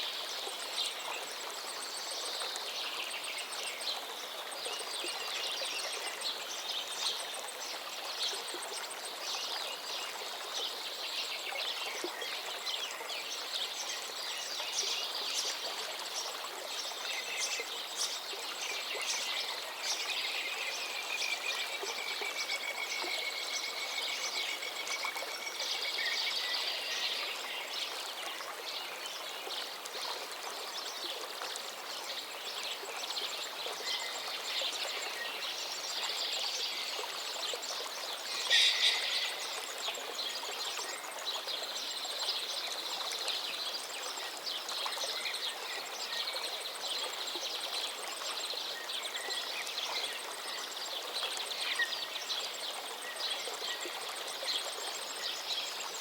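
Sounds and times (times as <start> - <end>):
gently flowing river: 0.0 - 56.0
songbirds singing and calling: 0.0 - 56.0.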